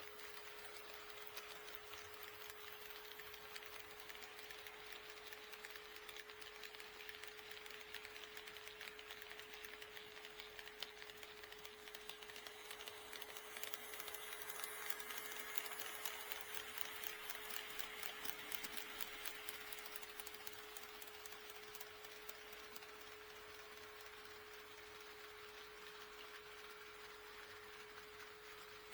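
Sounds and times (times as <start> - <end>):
model train wheels clicking: 0.0 - 28.9.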